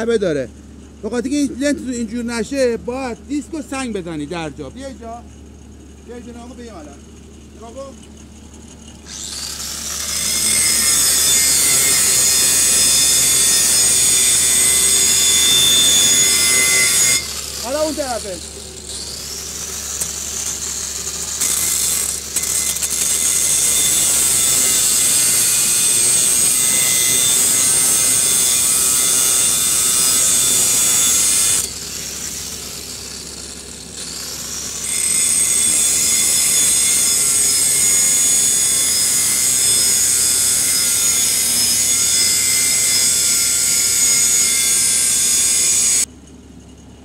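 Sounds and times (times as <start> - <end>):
angle grinder grinding metal: 7.6 - 46.1.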